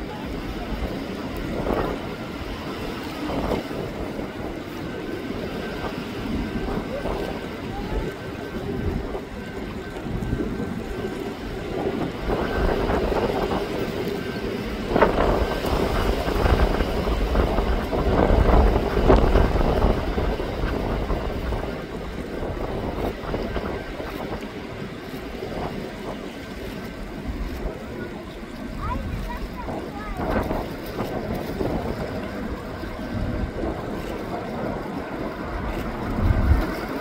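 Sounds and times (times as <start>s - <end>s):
jet engine rumble: 0.0s - 37.0s
wind buffeting microphone: 0.0s - 37.0s.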